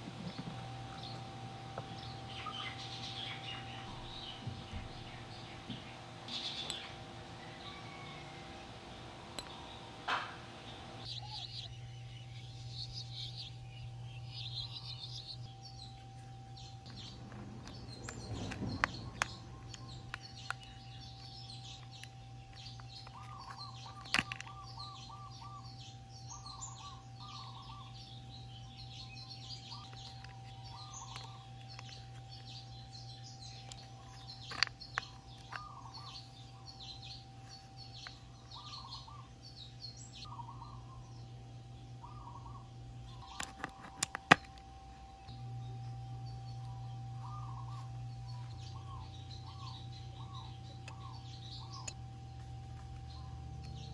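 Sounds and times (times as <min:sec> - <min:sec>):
low hum: 0:00.0 - 0:53.9
small birds chirping: 0:00.0 - 0:53.9.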